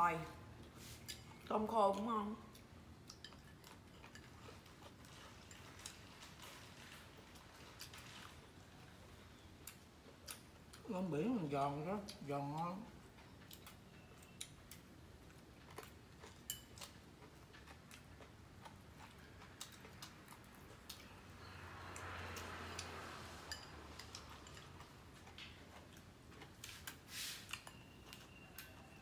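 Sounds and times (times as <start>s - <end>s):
quiet chewing and crunching: 0.5s - 29.0s.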